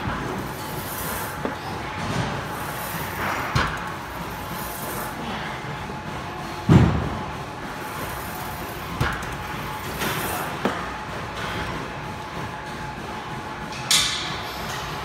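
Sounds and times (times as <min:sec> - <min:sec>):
gym room noise: 0:00.0 - 0:15.0.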